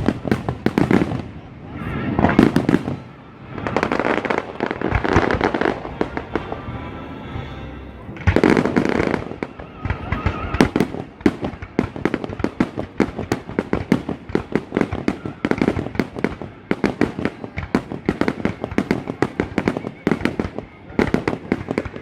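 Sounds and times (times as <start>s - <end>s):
fireworks bangs and pops: 0.0s - 6.7s, 8.1s - 22.0s.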